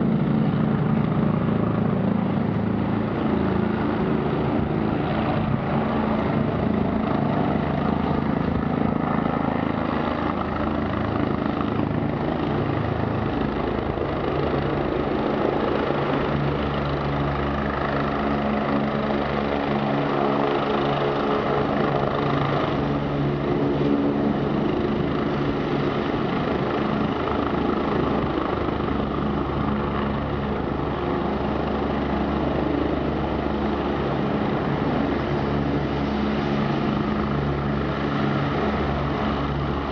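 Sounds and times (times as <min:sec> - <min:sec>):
helicopter rotor and turbine drone: 0:00.0 - 0:39.9.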